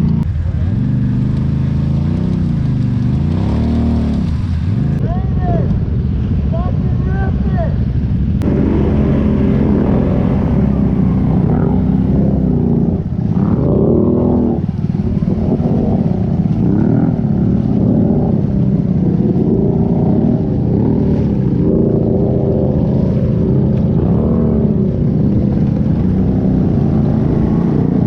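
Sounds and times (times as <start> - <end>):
atv engine revving: 0.0 - 5.9, 8.4 - 28.0.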